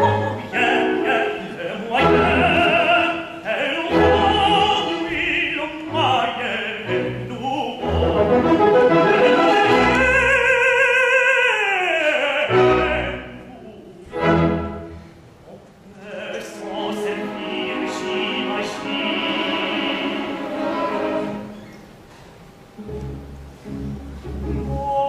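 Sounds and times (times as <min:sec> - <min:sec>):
orchestra playing: 0:00.0 - 0:11.2, 0:12.3 - 0:15.2, 0:16.5 - 0:21.5, 0:22.7 - 0:25.0
operatic tenor singing: 0:00.0 - 0:14.7, 0:15.8 - 0:21.5, 0:23.6 - 0:25.0.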